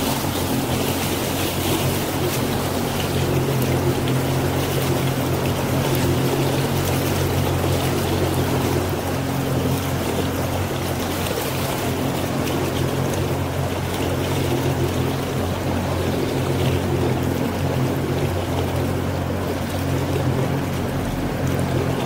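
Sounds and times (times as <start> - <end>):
motorboat engine humming: 0.0 - 22.0
water rushing past hull: 0.0 - 22.0.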